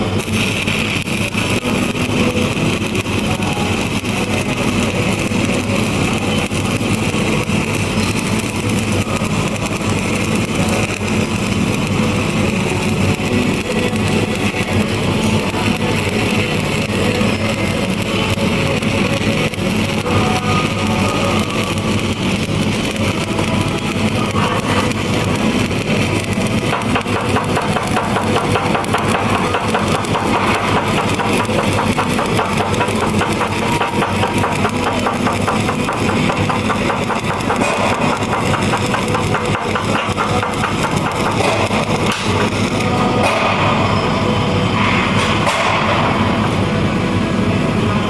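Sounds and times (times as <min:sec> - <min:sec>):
welding arc crackling: 0:00.0 - 0:48.0.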